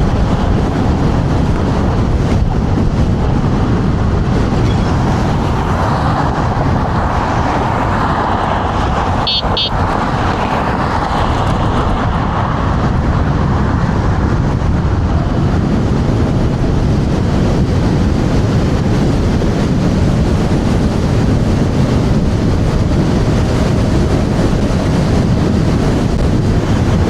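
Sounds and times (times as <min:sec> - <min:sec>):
loud wind buffeting microphone: 0:00.0 - 0:27.0.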